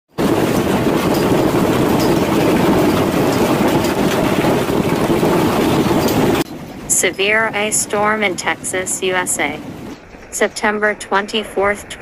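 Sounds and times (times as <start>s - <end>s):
rushing storm noise: 0.1s - 12.0s.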